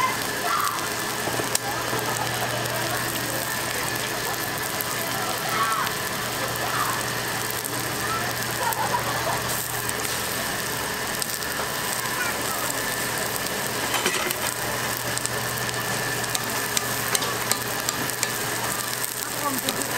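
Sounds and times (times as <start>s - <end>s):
constant low hum: 0.0s - 19.9s
faint voices: 0.0s - 19.9s.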